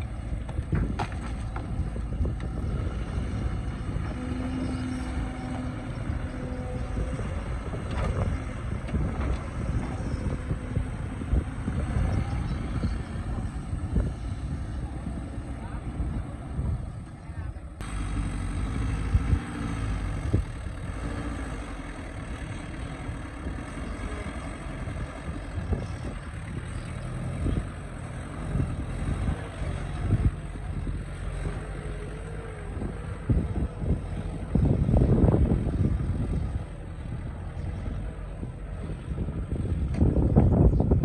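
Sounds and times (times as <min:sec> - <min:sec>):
excavator diesel engine: 0:00.0 - 0:41.0.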